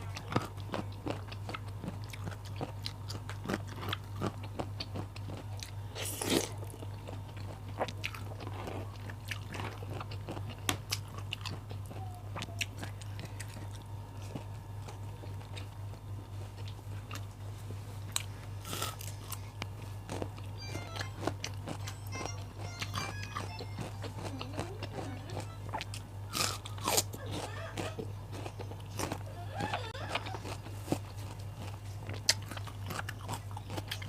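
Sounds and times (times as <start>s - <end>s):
crunchy vegetables chewing: 0.0s - 34.0s
steady low hum: 0.0s - 34.0s.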